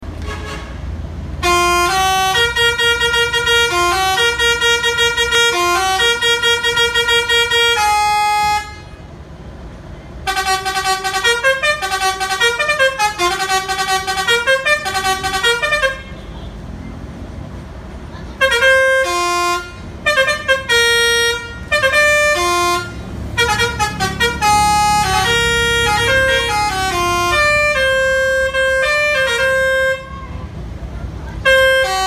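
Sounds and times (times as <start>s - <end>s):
musical vehicle horn: 0.1s - 0.8s, 1.4s - 9.1s, 10.2s - 16.6s, 18.4s - 30.5s, 31.3s - 32.0s.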